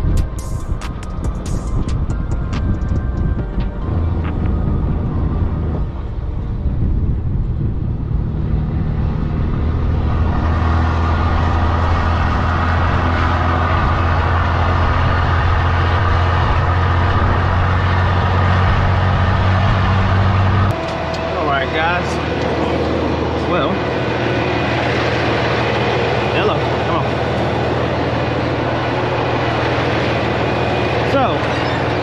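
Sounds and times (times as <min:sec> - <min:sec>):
diesel truck engine drone: 0:00.0 - 0:32.0.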